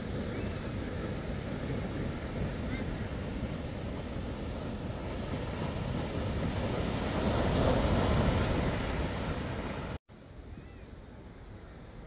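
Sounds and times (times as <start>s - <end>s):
waves breaking on beach: 0.0s - 10.0s
wind buffeting microphone: 0.0s - 10.8s.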